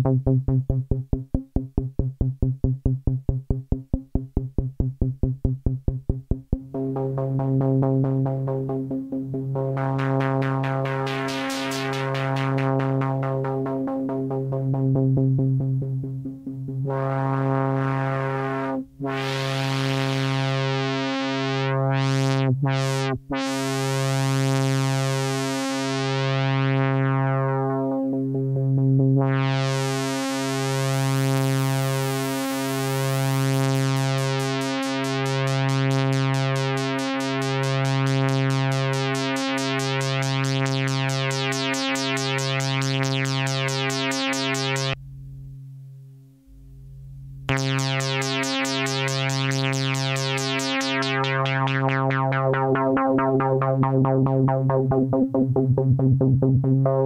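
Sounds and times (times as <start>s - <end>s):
buzzy low synth note: 0.0s - 57.0s.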